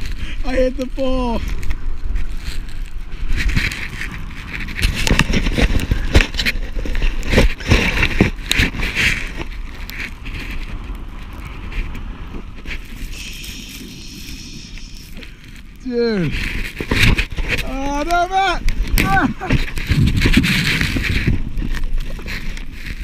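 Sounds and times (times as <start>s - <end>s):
snow spraying and scraping: 0.0s - 23.0s
wind buffeting microphone: 0.0s - 23.0s.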